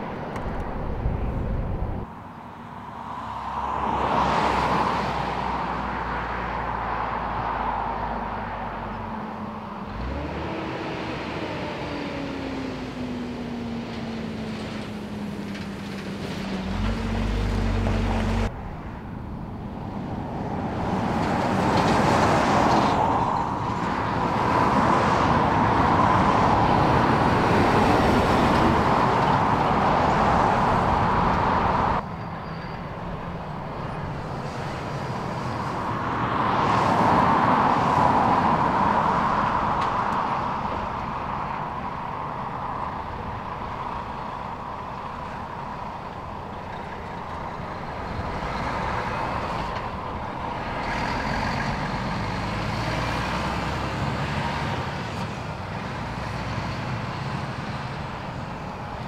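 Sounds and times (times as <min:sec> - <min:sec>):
highway traffic passing: 0:00.0 - 0:59.0.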